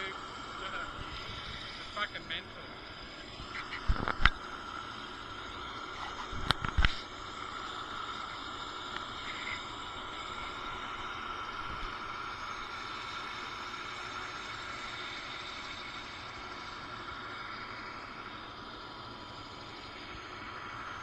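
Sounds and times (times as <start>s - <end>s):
steady outdoor rush: 0.0s - 21.0s.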